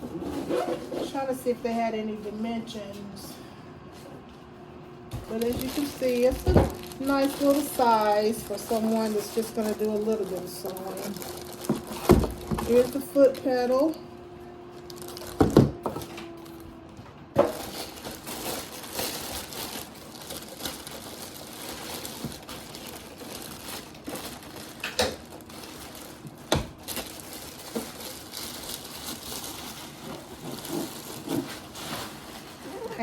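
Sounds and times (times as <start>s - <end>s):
packaging rustling and crinkling: 5.1s - 14.0s, 14.7s - 16.7s, 17.4s - 33.0s.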